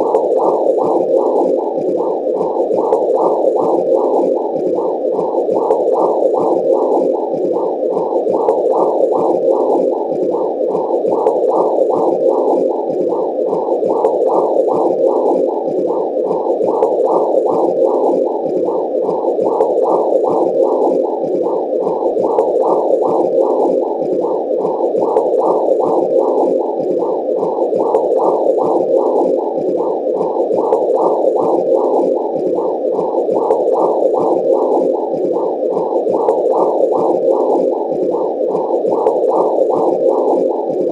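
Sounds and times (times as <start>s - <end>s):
muffled rhythmic whooshing: 0.0s - 40.9s.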